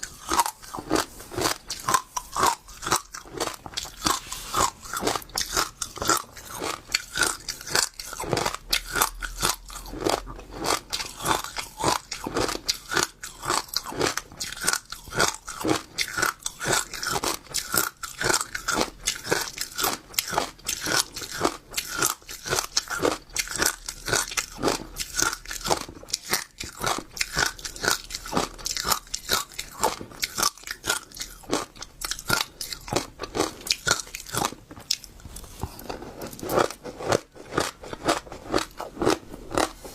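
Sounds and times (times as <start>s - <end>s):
chewing crunchy seeds: 0.0s - 39.9s.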